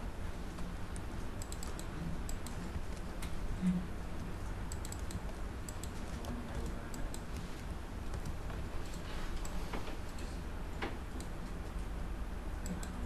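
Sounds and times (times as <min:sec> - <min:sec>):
low background hum: 0:00.0 - 0:13.0
keyboard typing clicks: 0:00.5 - 0:03.4, 0:04.1 - 0:11.8, 0:12.6 - 0:13.0.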